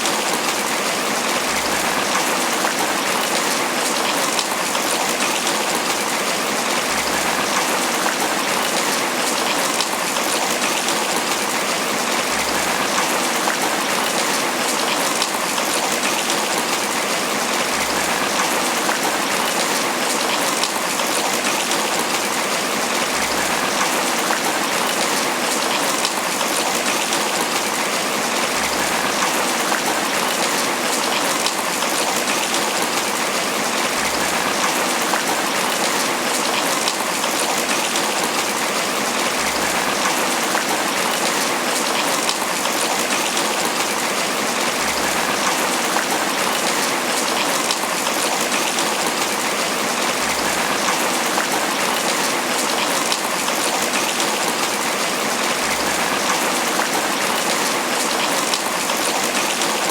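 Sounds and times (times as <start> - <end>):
heavy rain pattering on leaves: 0.0 - 59.9.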